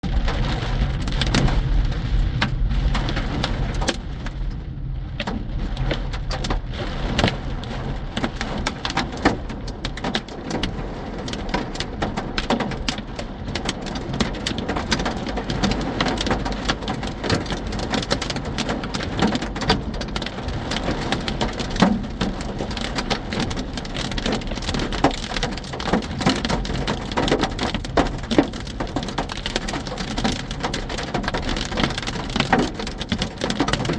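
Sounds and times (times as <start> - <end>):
hailstones pelting a vehicle: 0.0 - 33.9.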